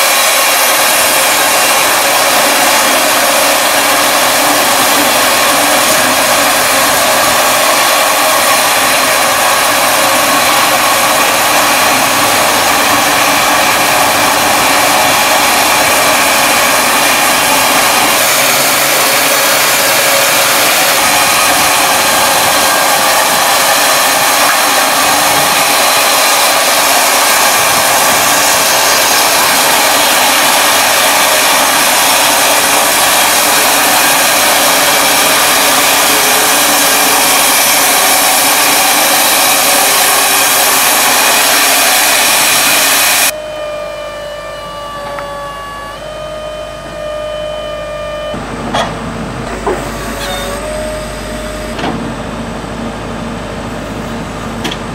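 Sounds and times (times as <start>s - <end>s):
bandsaw mill cutting log: 0.0s - 53.9s.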